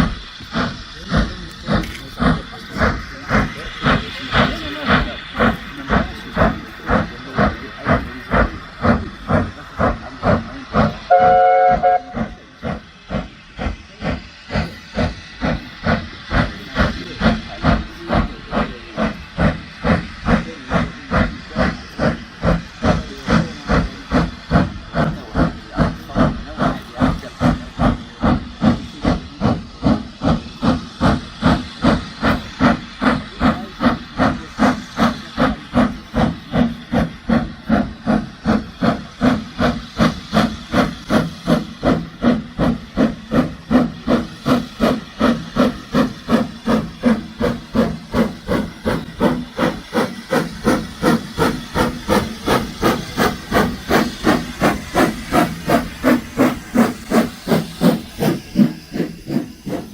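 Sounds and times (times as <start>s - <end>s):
steam hiss: 0.0s - 59.9s
steam locomotive chuffing: 0.0s - 59.9s.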